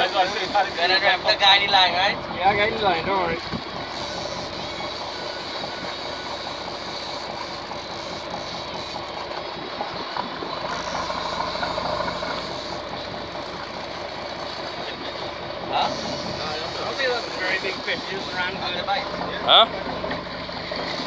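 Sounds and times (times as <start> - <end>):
boat engine running: 0.0 - 21.0
water rushing: 0.0 - 21.0.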